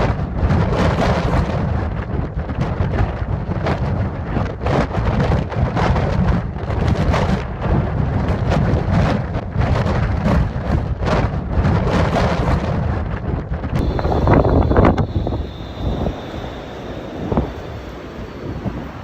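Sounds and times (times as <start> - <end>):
deep thunder rumble: 0.0 - 19.0.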